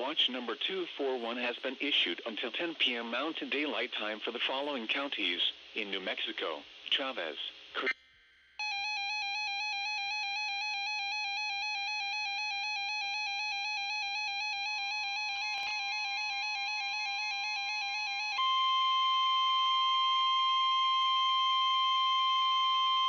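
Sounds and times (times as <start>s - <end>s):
faint steady tone: 0.4s - 23.0s.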